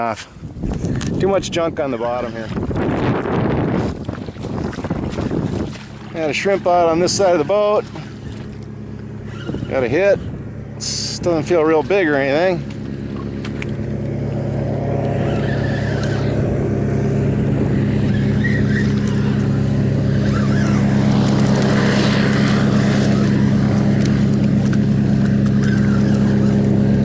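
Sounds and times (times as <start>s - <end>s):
boat motor droning: 0.0s - 27.0s.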